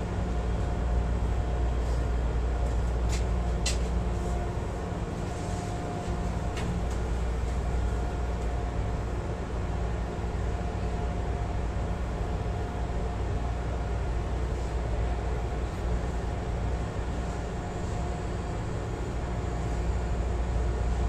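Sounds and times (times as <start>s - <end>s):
train car equipment humming: 0.0s - 21.0s.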